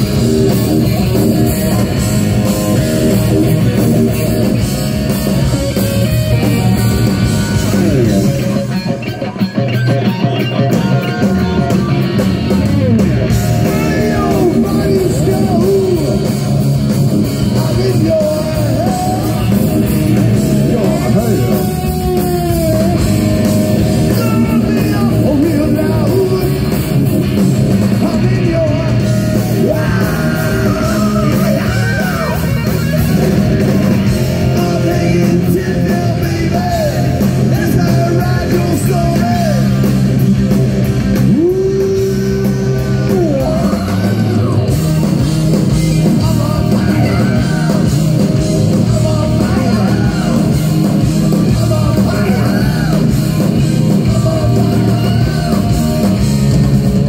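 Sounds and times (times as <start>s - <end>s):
hard rock band playing: 0.0s - 57.0s
man shouting and singing: 7.1s - 12.2s, 12.8s - 16.6s, 17.2s - 27.1s, 27.8s - 40.0s, 41.2s - 56.7s.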